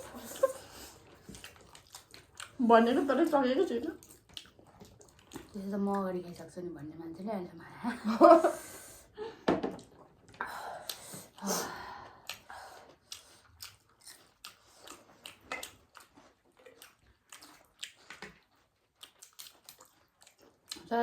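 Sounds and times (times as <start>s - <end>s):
people chewing: 0.0s - 7.0s, 8.0s - 21.0s.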